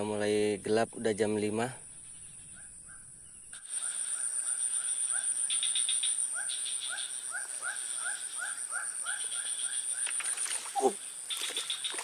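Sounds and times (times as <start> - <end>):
high insect buzz: 0.3 - 12.0
rising frog calls: 1.8 - 12.0.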